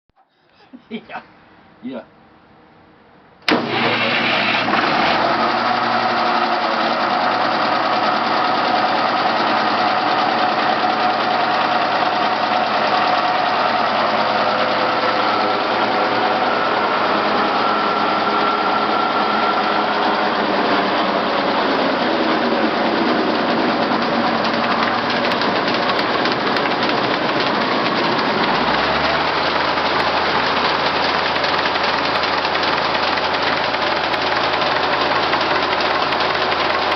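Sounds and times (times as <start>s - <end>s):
engine-driven sawmill running: 3.5s - 36.9s.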